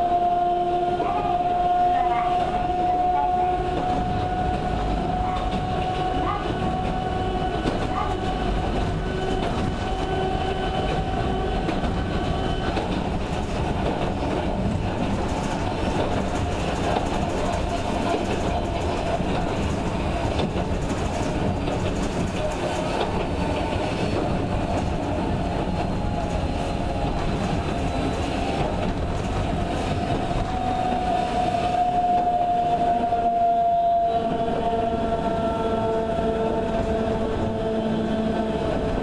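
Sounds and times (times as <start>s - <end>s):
wheels rumbling on track: 0.0s - 39.0s.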